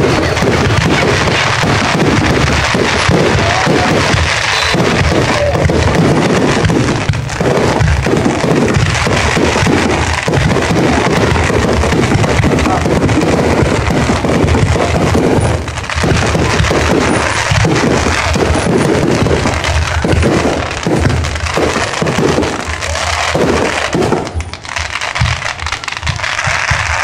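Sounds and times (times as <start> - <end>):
fireworks crackling and booming: 0.0 - 27.0.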